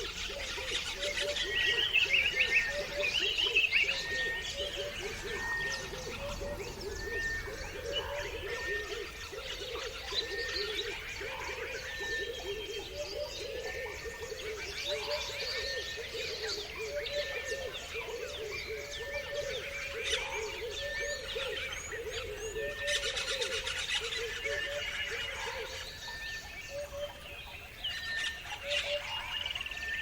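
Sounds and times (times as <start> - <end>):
chorus of birds chirping: 0.0 - 30.0
lower repeated bird calls: 0.0 - 30.0.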